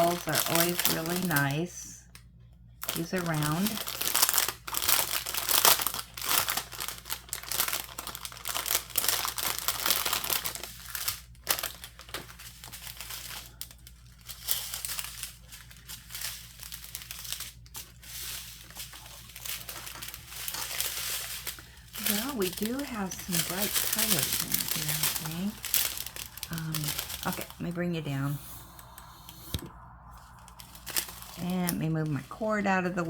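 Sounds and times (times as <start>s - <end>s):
plastic bags crinkling: 0.0s - 1.8s, 2.8s - 33.0s.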